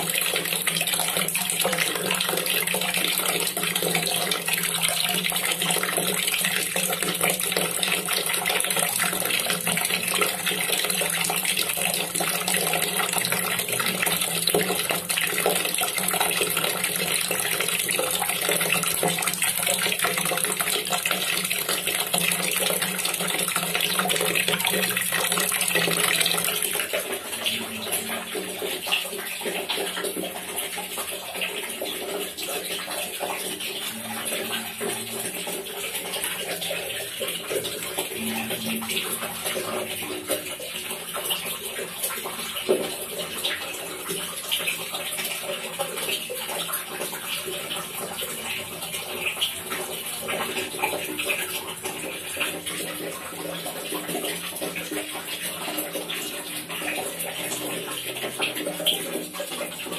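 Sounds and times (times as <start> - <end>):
tap water splashing into container: 0.0 - 59.9.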